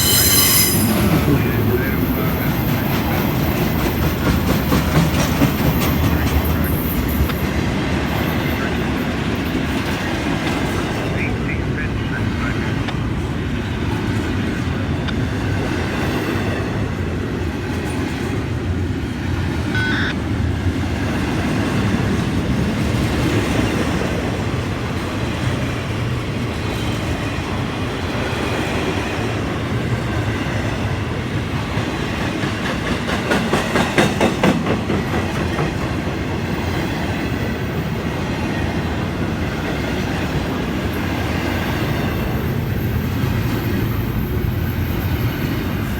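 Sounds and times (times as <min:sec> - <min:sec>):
freight train wheels rumbling on rail: 0:00.0 - 0:45.9.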